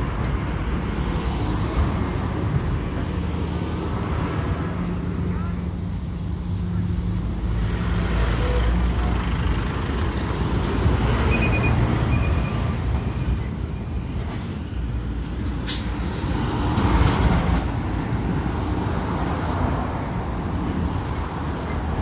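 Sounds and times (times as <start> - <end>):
vehicles passing rumble: 0.0 - 22.0.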